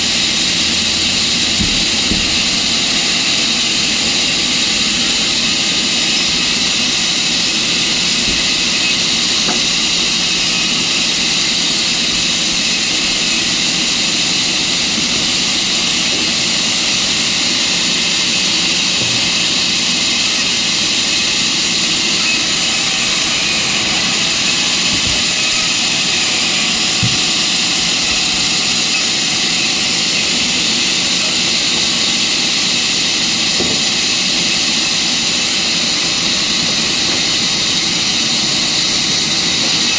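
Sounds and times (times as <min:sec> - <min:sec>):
sawmill machinery whirring: 0:00.0 - 0:39.9.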